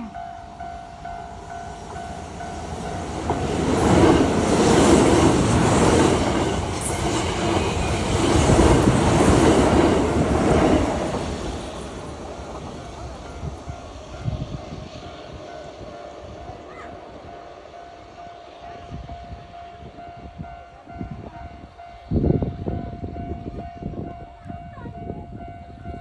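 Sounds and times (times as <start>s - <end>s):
electric train running past: 0.0s - 26.0s.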